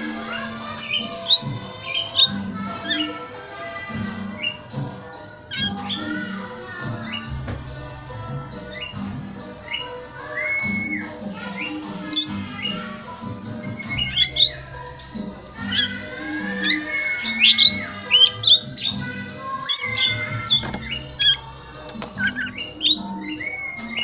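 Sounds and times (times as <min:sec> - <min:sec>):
songbird whistling: 0:00.0 - 0:03.2, 0:04.1 - 0:04.9, 0:05.5 - 0:07.5, 0:08.7 - 0:24.0
background music low notes: 0:00.0 - 0:24.0.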